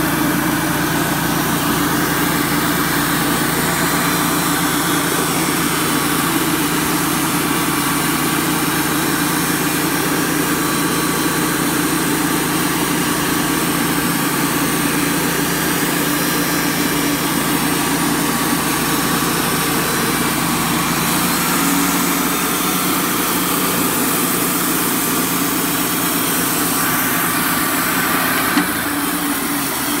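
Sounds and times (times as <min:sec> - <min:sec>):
band sawmill cutting log: 0:00.0 - 0:30.0.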